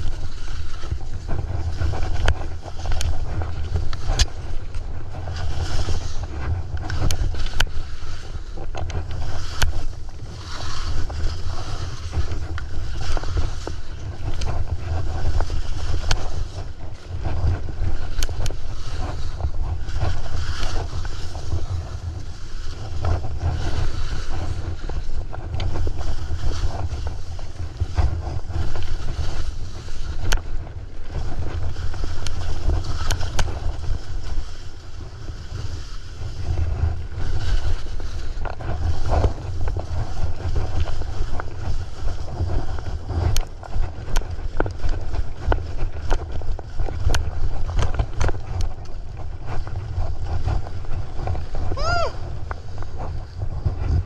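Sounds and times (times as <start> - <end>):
skis scraping over snow: 0.0 - 54.0
wind buffeting microphone: 0.0 - 54.0.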